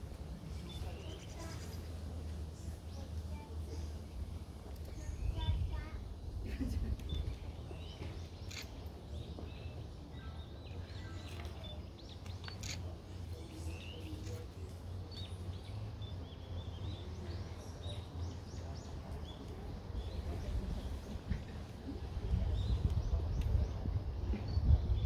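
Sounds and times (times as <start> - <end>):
small birds chirping: 0.4 - 25.0.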